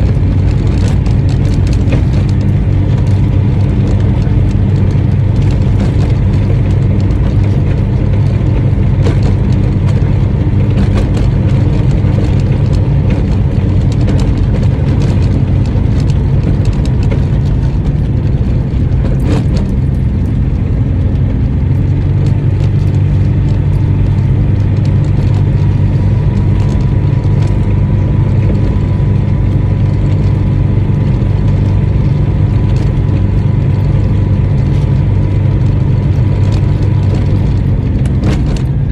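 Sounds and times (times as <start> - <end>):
car engine drone from cabin: 0.0 - 38.9.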